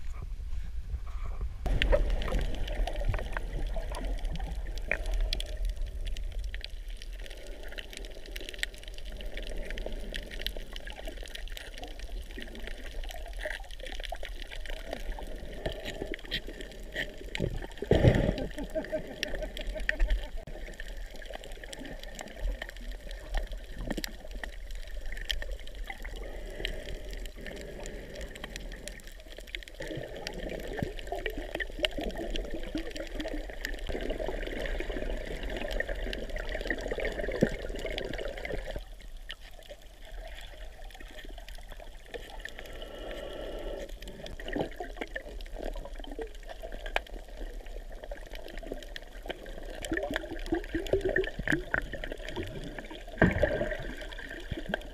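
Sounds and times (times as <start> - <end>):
water sloshing and gurgling: 0.0 - 54.9.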